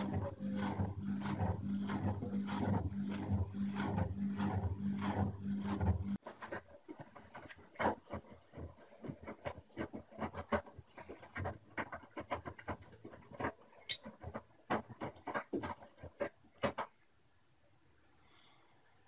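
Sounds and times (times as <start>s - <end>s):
laundry tumbling in washing machine: 0.0s - 17.0s.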